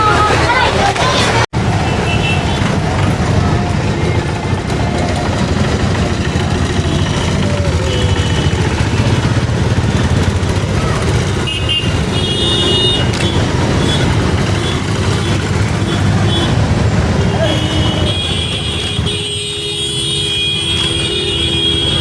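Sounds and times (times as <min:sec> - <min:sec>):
steam locomotive rumbling: 0:00.0 - 0:19.1.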